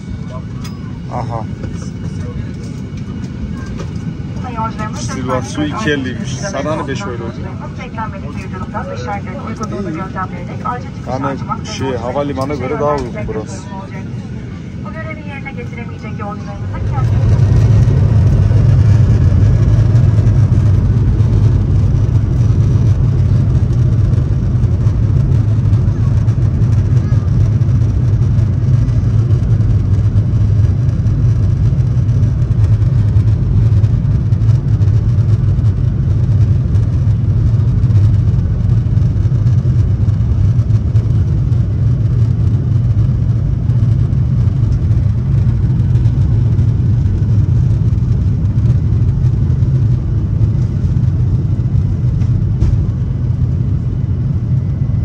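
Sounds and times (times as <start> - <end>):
jet engines and airflow rumbling: 0.0 - 55.0.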